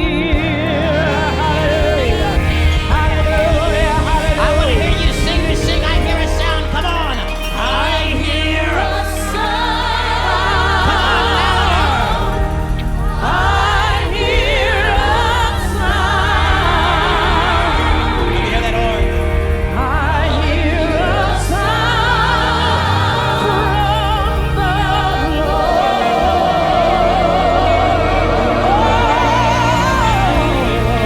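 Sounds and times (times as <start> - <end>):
person singing gospel with vibrato: 0.0 - 31.0
sustained keyboard chords: 0.0 - 31.0.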